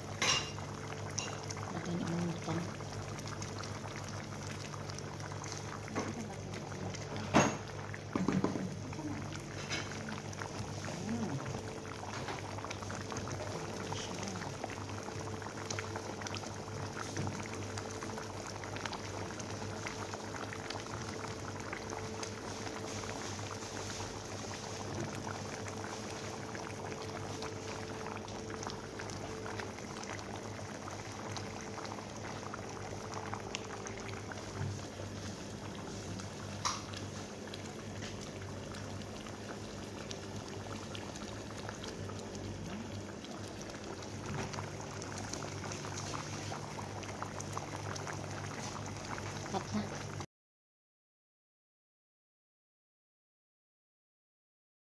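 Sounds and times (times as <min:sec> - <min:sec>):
pot boiling with bubbling: 0:00.0 - 0:50.3.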